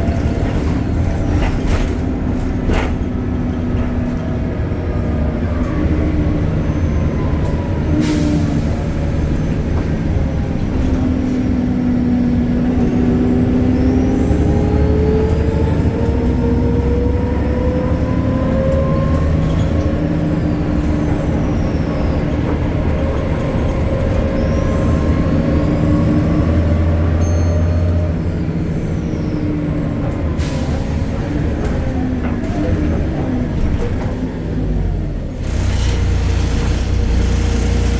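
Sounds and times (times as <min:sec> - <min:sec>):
bus diesel engine hum: 0:00.0 - 0:37.9.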